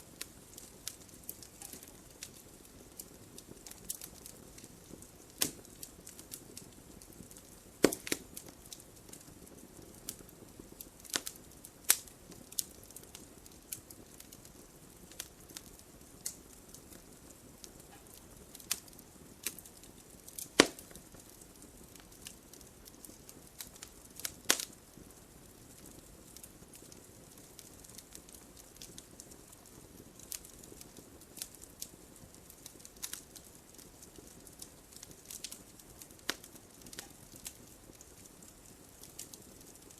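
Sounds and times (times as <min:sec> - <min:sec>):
soft fire hiss: 0:00.0 - 0:39.9
wood fire crackling: 0:00.0 - 0:39.9
fire pops: 0:00.1 - 0:39.9.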